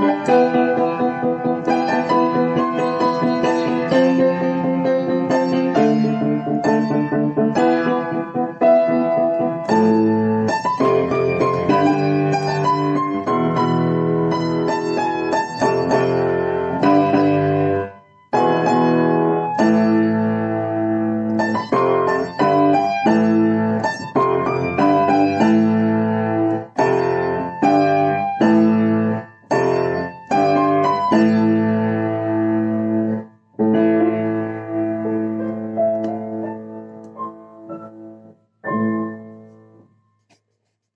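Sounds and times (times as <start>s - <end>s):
piano chords and notes: 0.0s - 40.5s.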